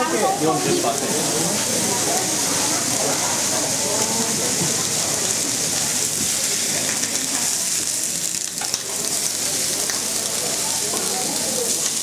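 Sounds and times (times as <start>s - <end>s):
steaks sizzling on a griddle pan: 0.0s - 12.0s.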